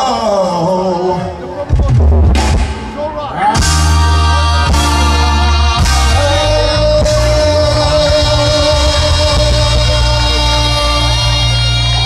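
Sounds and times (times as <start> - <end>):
man singing: 0.0 - 1.7, 3.3 - 12.0
live reggae band: 0.0 - 12.0.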